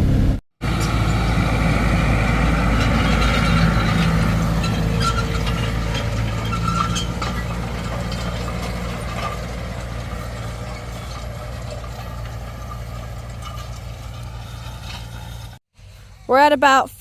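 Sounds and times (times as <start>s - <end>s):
tractor engine running: 0.0s - 16.1s
machinery clicking and rattling: 0.7s - 15.6s.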